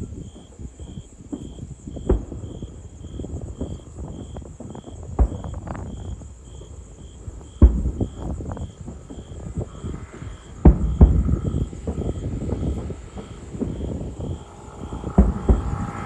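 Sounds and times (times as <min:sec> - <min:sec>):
fireworks deep booms: 0:00.0 - 0:16.0
fireworks rumble and crackle: 0:00.0 - 0:16.0.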